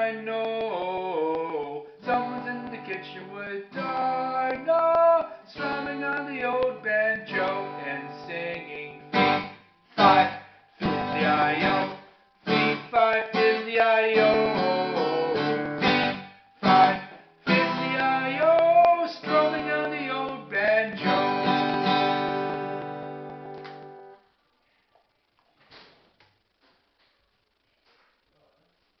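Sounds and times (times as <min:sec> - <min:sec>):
acoustic guitar strumming: 0:00.0 - 0:24.2.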